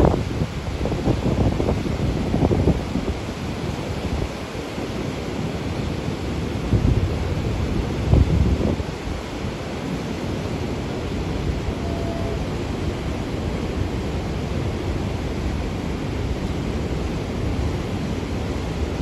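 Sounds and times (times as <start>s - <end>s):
rushing white water roar: 0.0s - 19.0s.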